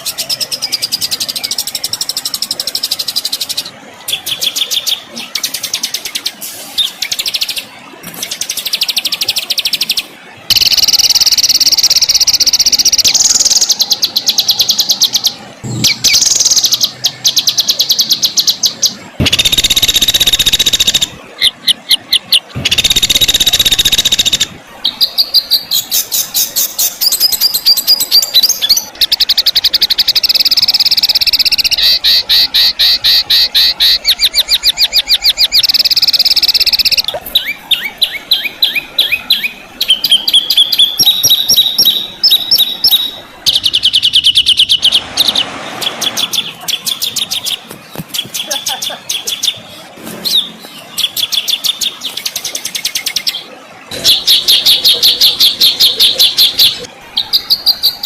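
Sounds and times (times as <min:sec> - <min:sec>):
songbird song with trills: 0:00.0 - 0:58.0.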